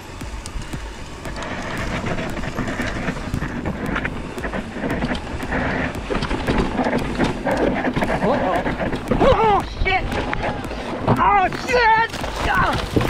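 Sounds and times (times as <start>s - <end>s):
mountain bike rattling over rock: 1.3s - 13.0s.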